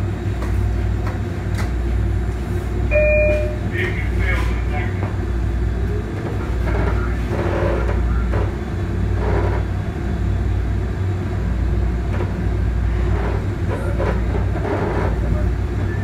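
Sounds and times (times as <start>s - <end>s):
light-rail car rumbling: 0.0s - 16.0s.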